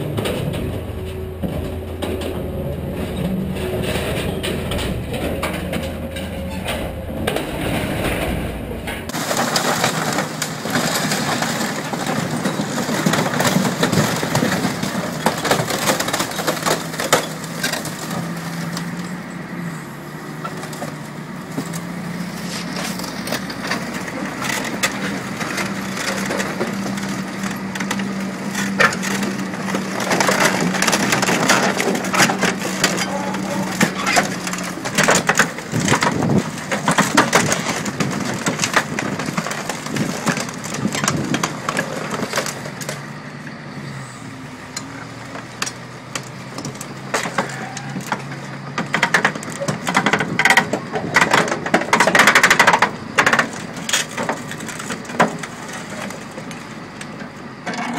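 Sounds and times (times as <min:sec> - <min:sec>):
car body crunching: 0:00.0 - 0:19.2, 0:20.4 - 0:43.2, 0:45.3 - 0:57.9
diesel engine hum: 0:00.0 - 0:57.9.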